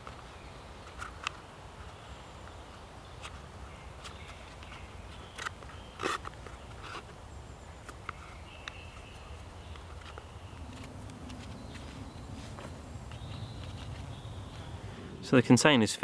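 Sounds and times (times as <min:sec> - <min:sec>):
bark and root crackling: 0:00.8 - 0:14.8.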